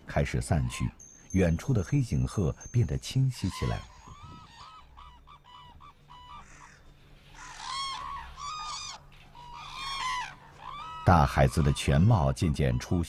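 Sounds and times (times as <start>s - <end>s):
cranes calling: 1.8s - 13.0s.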